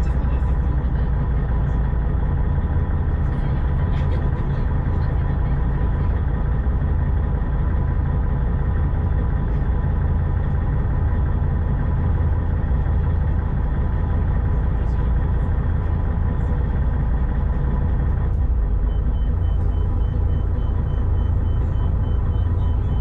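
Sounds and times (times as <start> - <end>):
constant hum: 0.0 - 23.0
ferry engine droning: 0.0 - 23.0.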